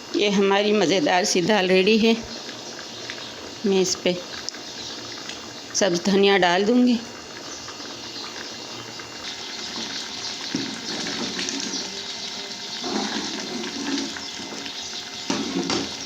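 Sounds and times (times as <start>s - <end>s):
pot bubbling on stove: 0.0s - 16.0s.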